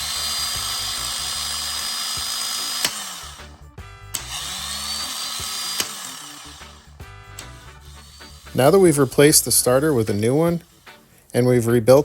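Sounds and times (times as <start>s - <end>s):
starter motor spinning: 0.0s - 11.0s.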